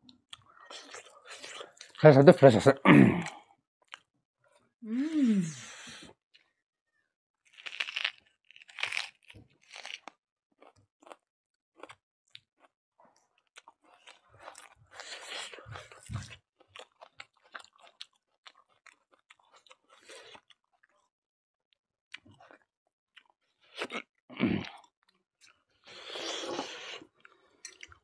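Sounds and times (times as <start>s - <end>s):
people chewing and crunching: 0.1s - 2.2s, 2.9s - 6.6s, 7.4s - 21.1s, 22.1s - 28.0s.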